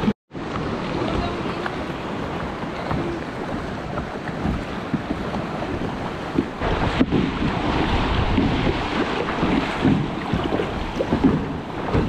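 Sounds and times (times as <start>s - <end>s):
paddle splashes: 0.0s - 12.0s
water slapping against kayak hull: 0.0s - 12.0s
wind buffeting microphone: 0.0s - 12.0s.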